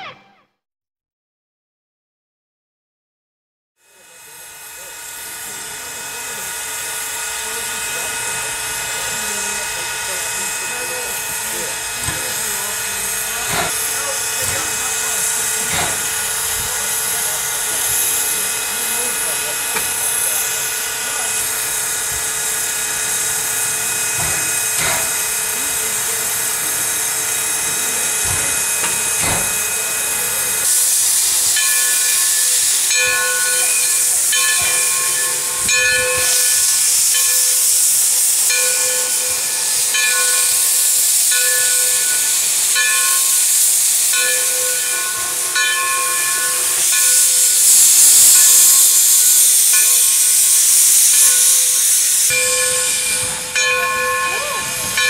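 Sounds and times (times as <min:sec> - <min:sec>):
steam locomotive hissing: 0:03.8 - 0:55.0.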